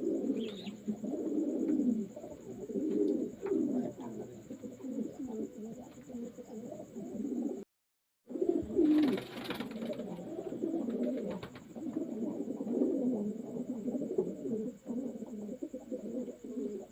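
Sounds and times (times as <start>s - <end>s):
pigeons cooing: 0.0s - 7.7s, 8.3s - 16.9s.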